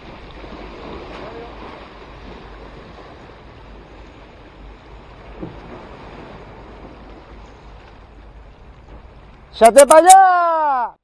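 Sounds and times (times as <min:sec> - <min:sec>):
sea waves washing on concrete: 0:00.0 - 0:09.8.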